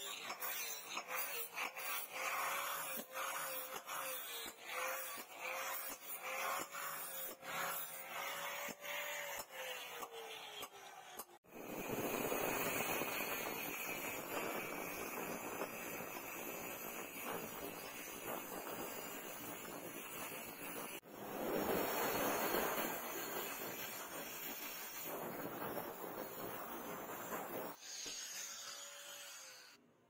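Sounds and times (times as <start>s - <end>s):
angle grinder cutting steel bar: 0.0s - 29.8s
angle grinder grinding steel: 0.0s - 29.8s.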